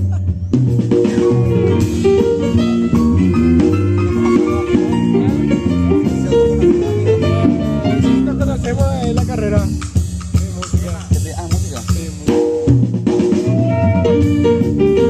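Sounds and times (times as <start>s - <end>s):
jazz combo playing swinging blues: 0.0s - 15.0s.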